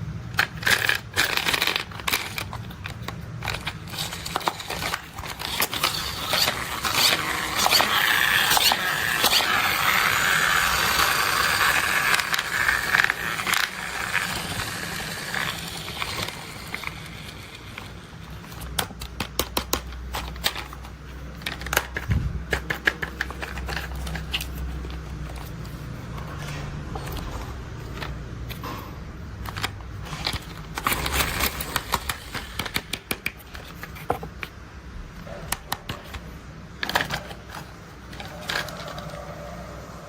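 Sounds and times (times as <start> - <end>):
toy vehicles scraping and rustling: 0.3 - 34.6, 35.2 - 40.0.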